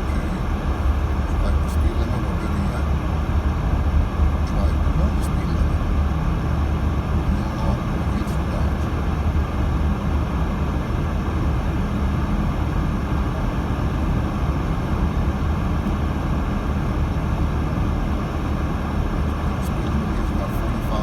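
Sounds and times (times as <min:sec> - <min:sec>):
car engine: 0:00.0 - 0:21.0
tyres rumbling on snowy road: 0:00.0 - 0:21.0.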